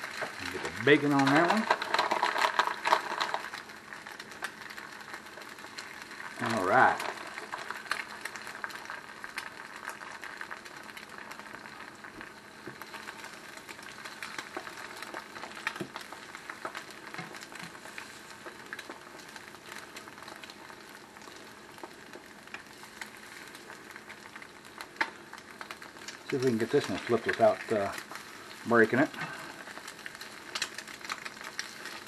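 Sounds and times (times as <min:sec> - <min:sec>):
eggs sizzling in a skillet: 0:00.0 - 0:32.0.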